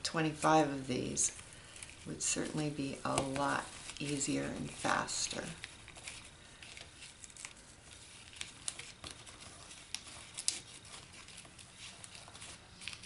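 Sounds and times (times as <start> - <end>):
ribbon and cardstock rustling: 0.0 - 13.0.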